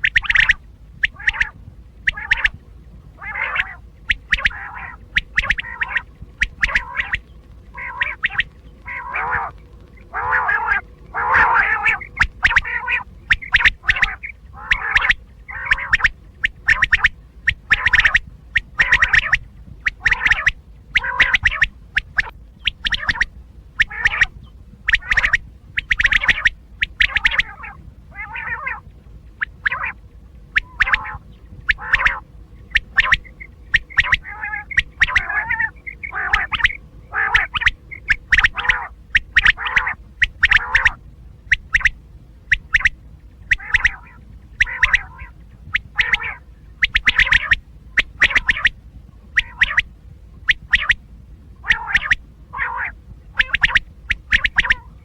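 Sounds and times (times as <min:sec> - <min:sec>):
faint low hum: 0:00.0 - 0:55.0
quail calling: 0:00.0 - 0:55.0.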